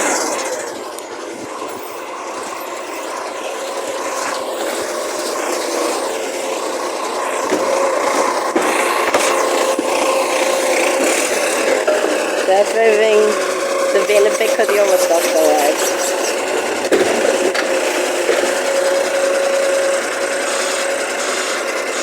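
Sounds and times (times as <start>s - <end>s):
truck whine: 0.0s - 22.0s.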